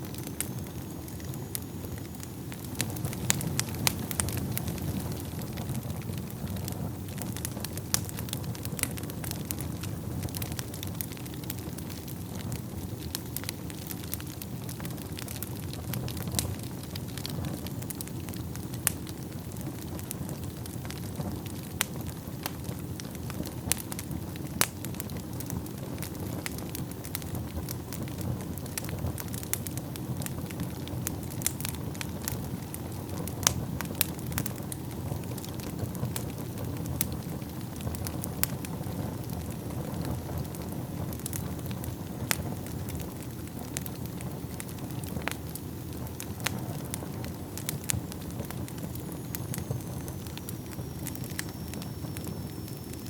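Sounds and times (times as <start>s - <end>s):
logs crackling and popping: 0.0s - 53.0s
low rush of flame: 0.0s - 53.0s.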